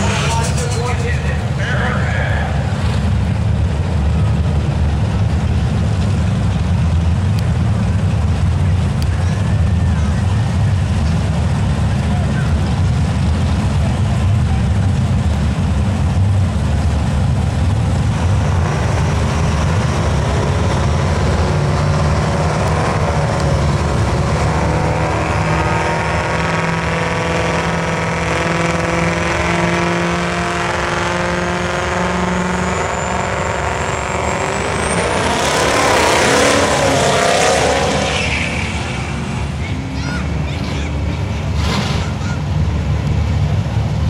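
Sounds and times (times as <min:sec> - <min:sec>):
diesel truck engine running: 0:00.0 - 0:44.0
loud rush of noise: 0:00.0 - 0:44.0.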